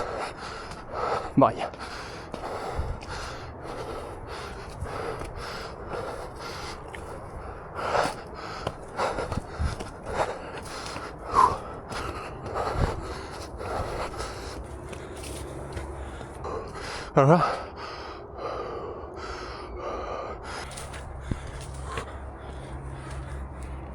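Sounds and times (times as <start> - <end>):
man breathing hard: 0.0 - 23.9.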